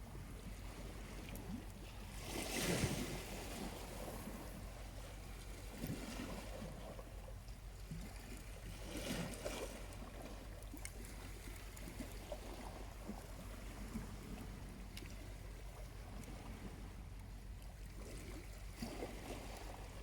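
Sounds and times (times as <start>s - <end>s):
waves lapping at shore: 0.0s - 20.0s.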